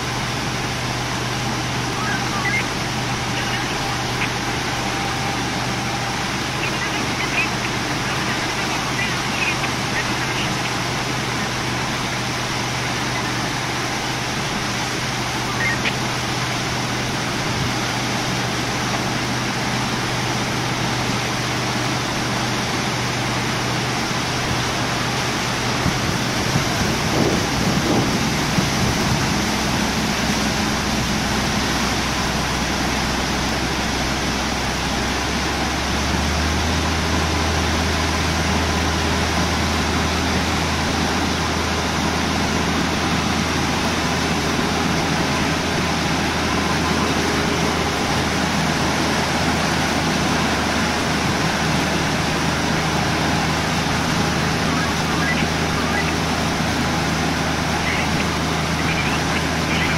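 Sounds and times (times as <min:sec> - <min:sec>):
boat engine idling hum: 0:00.0 - 0:59.9
water rushing through sluices: 0:00.0 - 0:59.9.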